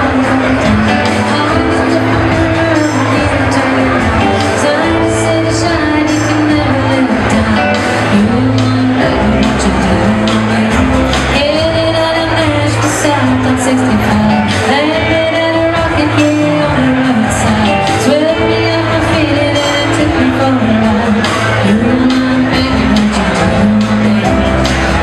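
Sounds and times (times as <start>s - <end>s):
bass: 0.0s - 25.0s
drums: 0.0s - 25.0s
woman singing: 0.0s - 25.0s.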